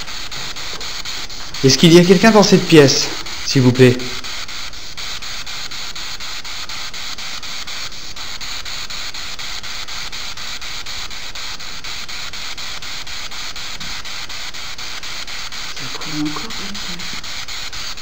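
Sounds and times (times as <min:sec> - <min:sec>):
radio scanning clicks: 0:00.0 - 0:18.0
radio static hiss: 0:00.0 - 0:18.0.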